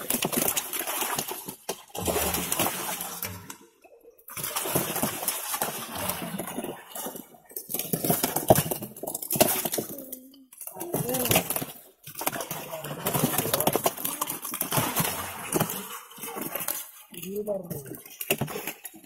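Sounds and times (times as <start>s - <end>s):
fish thrashing and splashing water: 0.0s - 19.0s.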